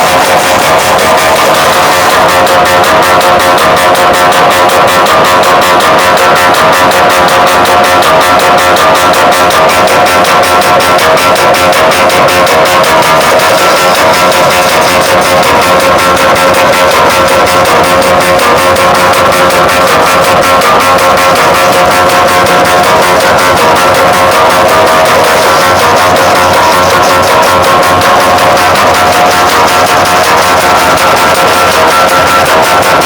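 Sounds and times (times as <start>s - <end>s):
loud music over loudspeakers: 0.0s - 33.0s.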